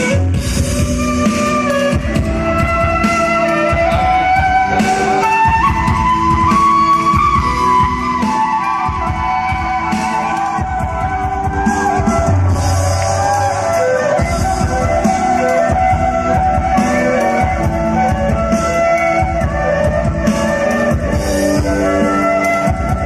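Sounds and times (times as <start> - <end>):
live band with flute: 0.0 - 23.0.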